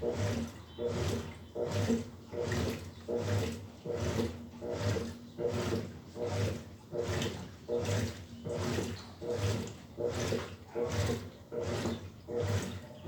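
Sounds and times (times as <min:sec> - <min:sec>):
washing machine motor hum: 0:00.0 - 0:13.0
washing machine swishing water: 0:00.0 - 0:13.0.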